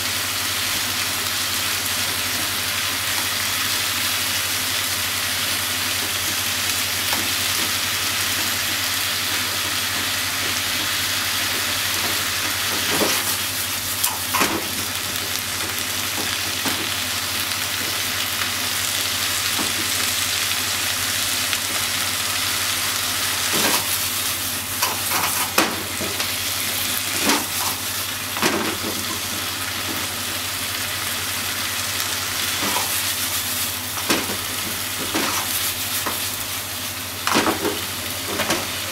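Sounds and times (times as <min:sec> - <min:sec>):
stir-fry sizzling in a pan: 0:00.0 - 0:38.9.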